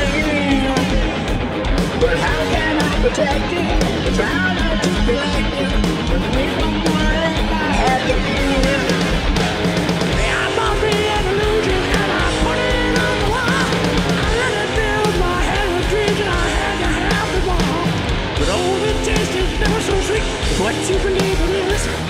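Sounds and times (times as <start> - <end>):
live hard rock band: 0.0 - 22.0.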